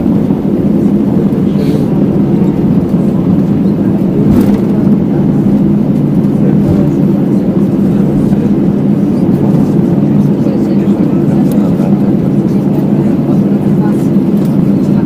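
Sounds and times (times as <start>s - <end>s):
airliner engine and wheel rumble: 0.0s - 15.0s.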